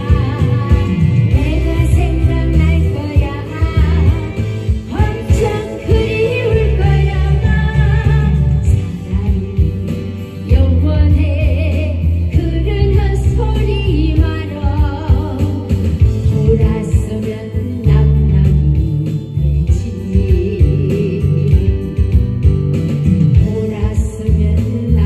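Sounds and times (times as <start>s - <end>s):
backing track with bass line: 0.0s - 25.0s
woman singing into microphone: 0.0s - 25.0s.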